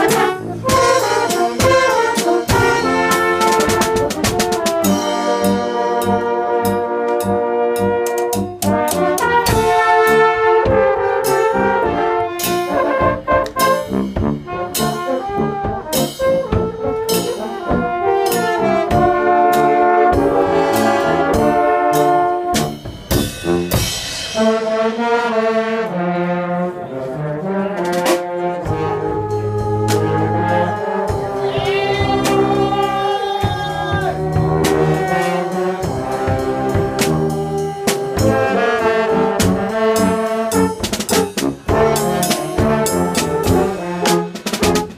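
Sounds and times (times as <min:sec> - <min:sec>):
brass ensemble playing: 0:00.0 - 0:44.9.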